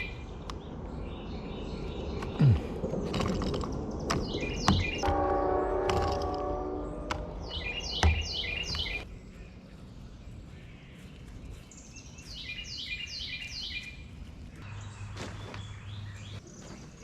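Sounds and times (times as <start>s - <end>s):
songbird singing whistled notes: 0.0s - 5.1s, 6.8s - 17.0s.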